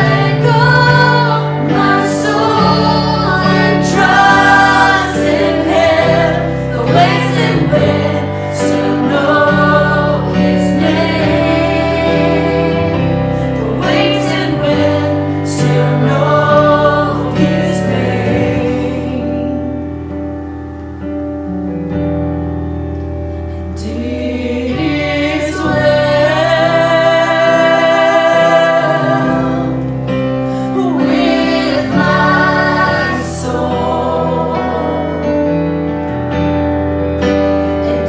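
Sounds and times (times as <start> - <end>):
voices singing gospel: 0.0 - 20.1, 23.6 - 36.3, 37.6 - 38.0.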